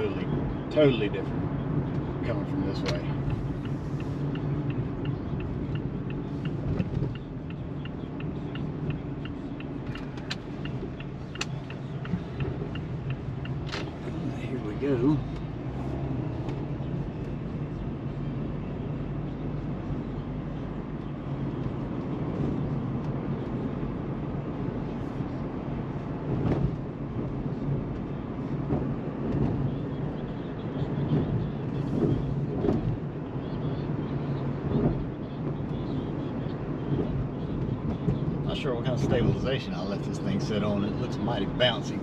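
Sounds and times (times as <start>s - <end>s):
vehicle engine and road hum: 0.0s - 42.0s.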